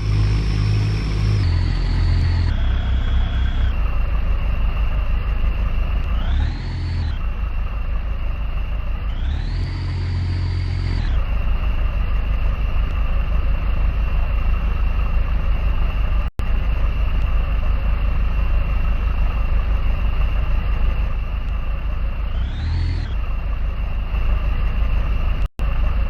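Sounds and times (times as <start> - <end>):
boat engine running: 0.0 - 26.0
high whine: 0.0 - 26.0.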